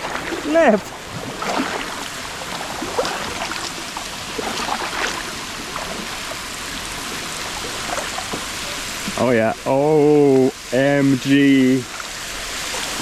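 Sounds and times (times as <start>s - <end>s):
fountain spray falling on water: 0.0s - 13.0s.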